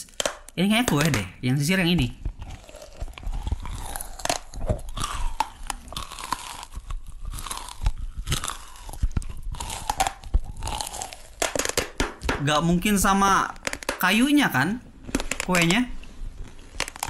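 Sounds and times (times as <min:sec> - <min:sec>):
biting and chewing crackles: 0:00.0 - 0:17.0.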